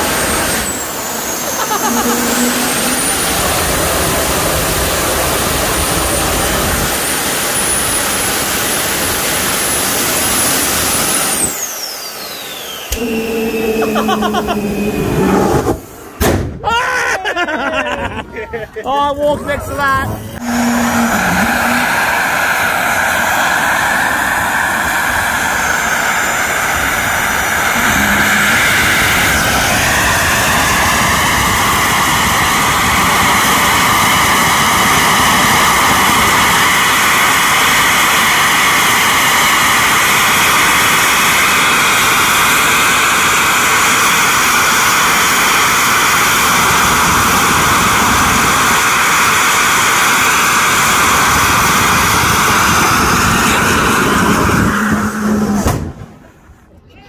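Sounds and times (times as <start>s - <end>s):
high whine: 0.0s - 16.2s, 17.6s - 56.5s
jet engine roar: 0.0s - 16.4s, 18.9s - 56.6s.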